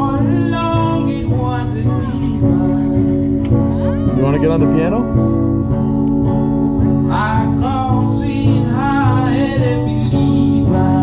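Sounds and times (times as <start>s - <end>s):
man singing: 0.0s - 5.2s, 6.8s - 11.0s
acoustic guitar strumming: 0.0s - 11.0s.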